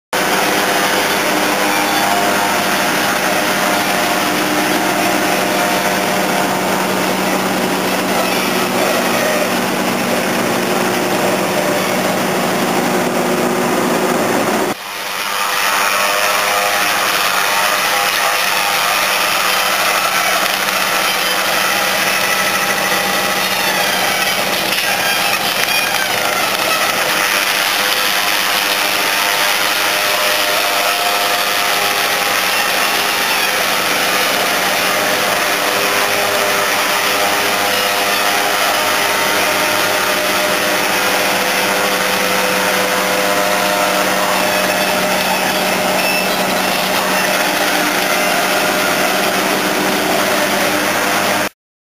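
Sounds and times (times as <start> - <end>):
forage harvester cutting wood: 0.2 - 51.5.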